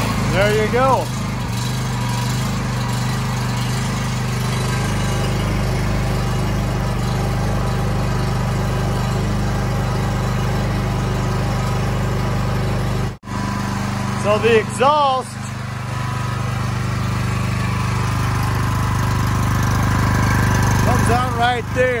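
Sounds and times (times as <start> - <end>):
generator engine running: 0.0 - 22.0.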